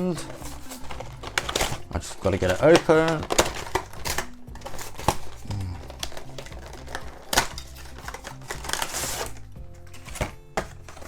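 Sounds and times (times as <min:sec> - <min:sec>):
cardboard box being opened: 0:00.0 - 0:11.0
packaging rustle: 0:00.0 - 0:11.0
soft background music: 0:00.0 - 0:11.0.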